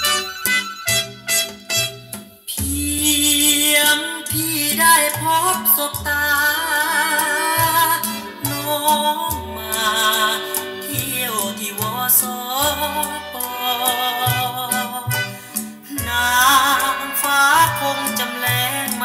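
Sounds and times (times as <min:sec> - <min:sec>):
song with sung melody: 0:02.5 - 0:19.0.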